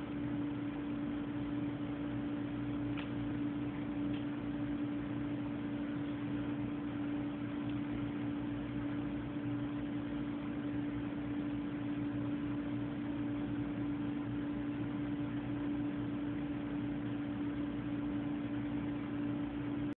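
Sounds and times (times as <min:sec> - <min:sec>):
steady hum: 0:00.0 - 0:19.9.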